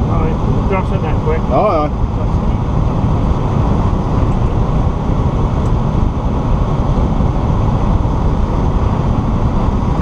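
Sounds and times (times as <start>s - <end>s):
tractor diesel engine drone: 0.0s - 10.0s.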